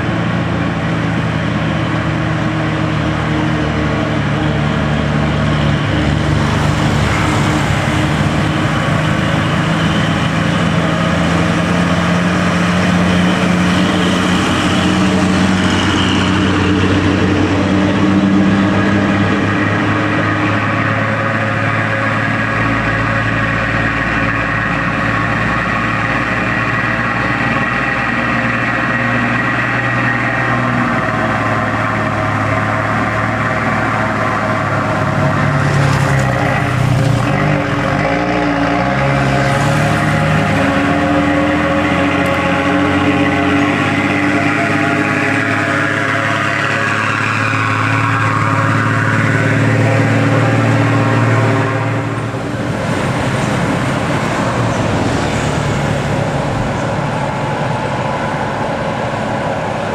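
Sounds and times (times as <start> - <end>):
diesel truck engines labouring: 0.0 - 59.9.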